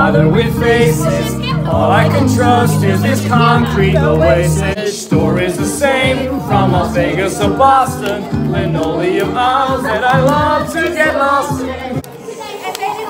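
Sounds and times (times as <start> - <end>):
young voices singing together: 0.0 - 13.0.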